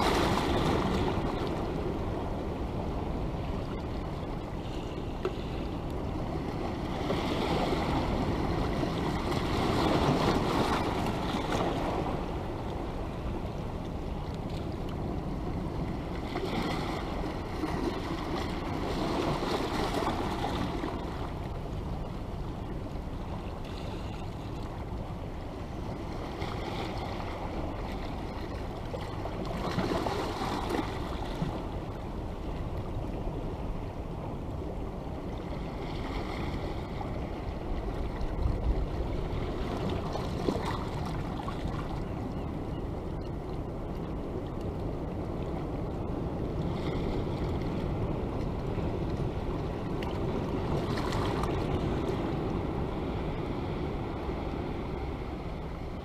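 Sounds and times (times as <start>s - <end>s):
sea surf on rocky shore: 0.0s - 56.0s.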